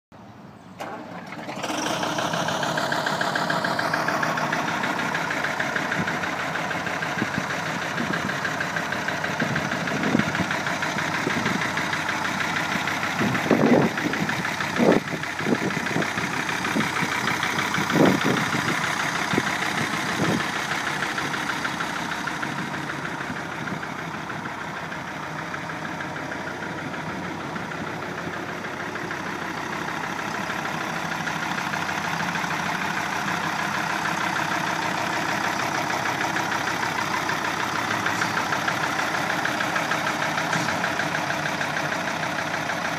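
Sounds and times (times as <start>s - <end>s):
tractor diesel engine running: 0.2s - 42.9s.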